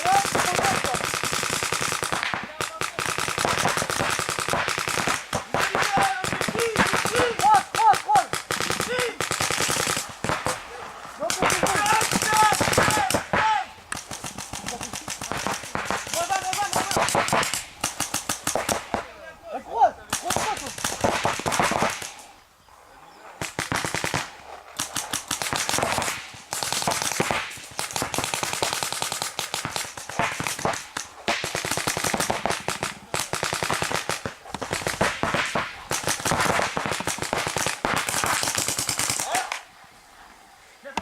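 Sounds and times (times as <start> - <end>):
paintball markers firing: 0.0 - 19.1, 20.1 - 22.3, 23.4 - 39.7.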